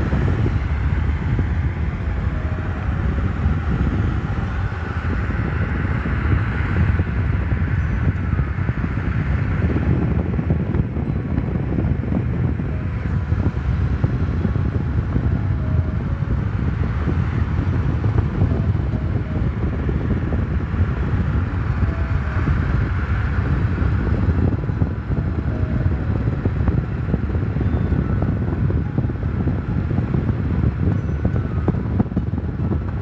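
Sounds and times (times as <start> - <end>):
car road and wind noise: 0.0 - 33.0.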